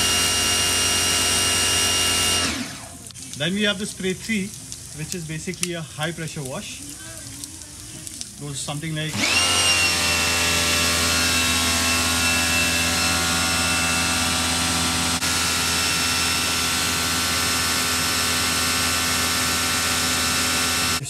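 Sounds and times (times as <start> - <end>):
pressure washer motor whine: 0.0 - 7.2, 8.4 - 21.0
water jet hissing: 0.0 - 21.0.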